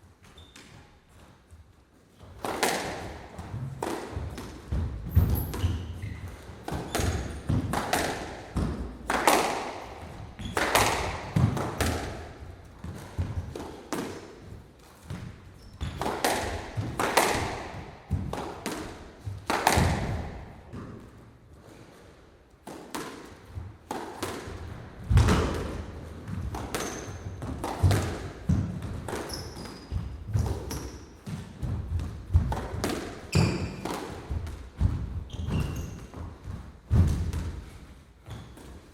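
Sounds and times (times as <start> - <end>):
squash ball struck by rackets: 2.4 - 21.2, 22.6 - 37.8.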